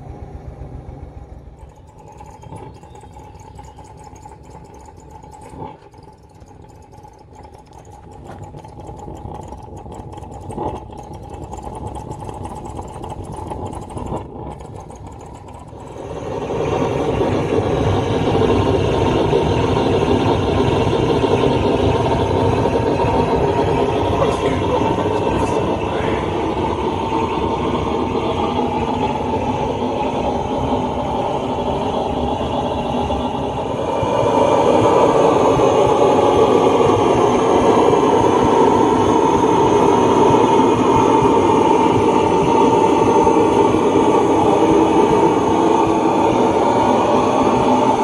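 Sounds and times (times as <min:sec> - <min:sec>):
blowlamp roaring: 0:00.0 - 0:48.0.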